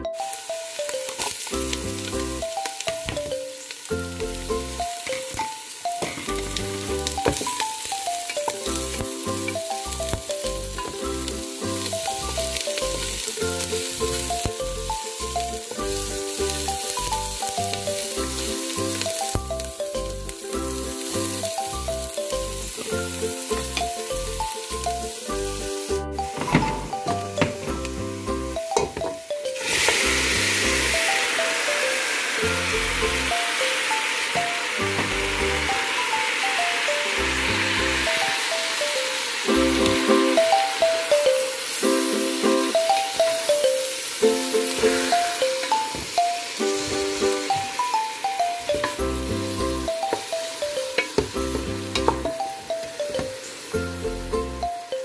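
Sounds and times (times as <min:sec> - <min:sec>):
light tune with steady beat: 0:00.0 - 0:31.7, 0:32.4 - 0:55.0
onions sizzling in oil: 0:00.0 - 0:55.0.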